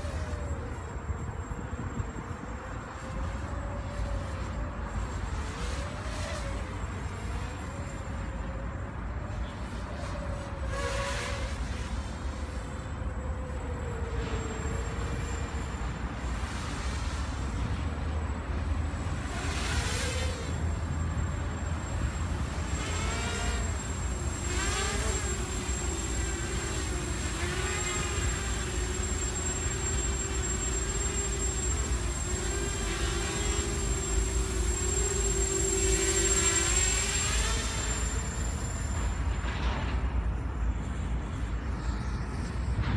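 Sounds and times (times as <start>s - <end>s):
quadcopter propellers buzzing: 0.0s - 39.4s.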